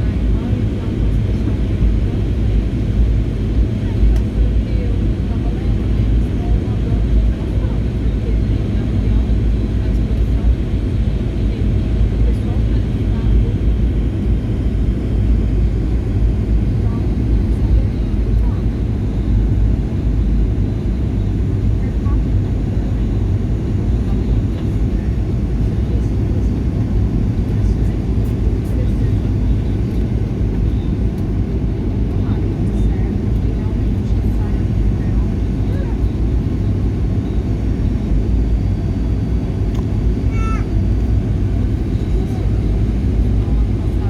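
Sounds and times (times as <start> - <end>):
airliner cabin engine rumble: 0.0 - 44.0.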